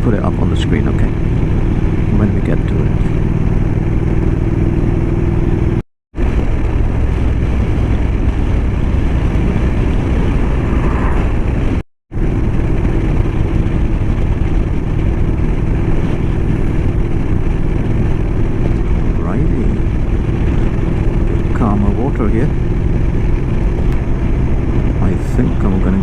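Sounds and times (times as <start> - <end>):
motorcycle engine running: 0.0 - 10.8, 11.4 - 26.0
wind rush on microphone: 0.0 - 26.0.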